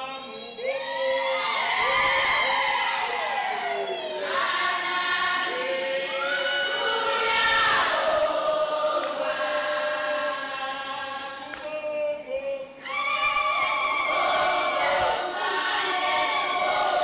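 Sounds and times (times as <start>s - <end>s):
choir singing long notes: 0.0s - 11.8s, 12.4s - 17.0s.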